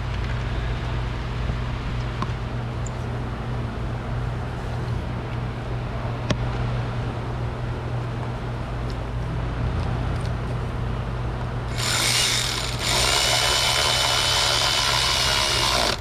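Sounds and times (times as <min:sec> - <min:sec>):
shop equipment humming: 0:00.0 - 0:16.0.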